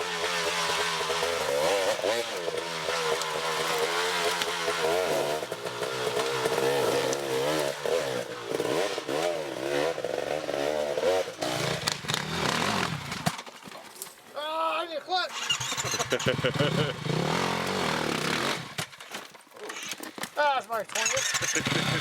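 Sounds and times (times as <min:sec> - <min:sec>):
motorcycle engine revving: 0:00.0 - 0:13.4, 0:15.3 - 0:18.9, 0:21.0 - 0:22.0.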